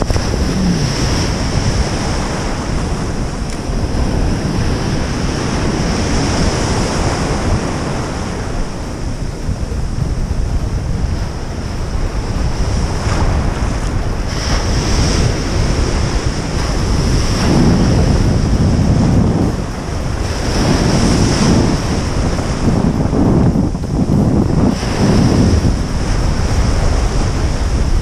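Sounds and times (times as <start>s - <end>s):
ocean surf breaking: 0.0s - 28.0s
wind buffeting microphone: 0.0s - 28.0s.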